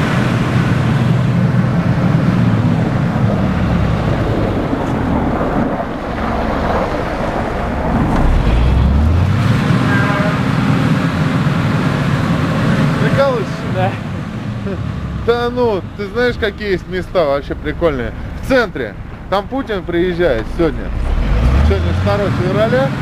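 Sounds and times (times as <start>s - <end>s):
deep rumble: 0.0s - 22.4s
car engine and tyre noise: 0.0s - 23.0s.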